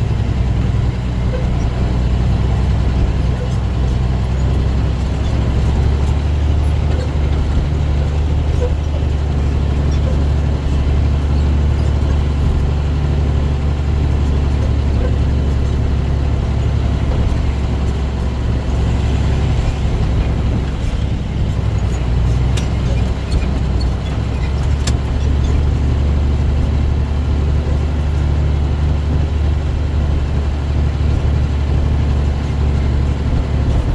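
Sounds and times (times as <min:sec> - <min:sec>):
diesel engine drone: 0:00.0 - 0:33.9
road noise: 0:00.0 - 0:33.9.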